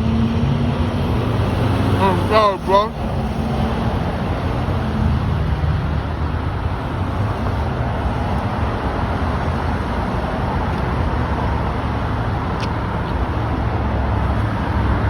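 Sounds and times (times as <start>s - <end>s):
vehicle rumble and hiss: 0.0s - 15.0s.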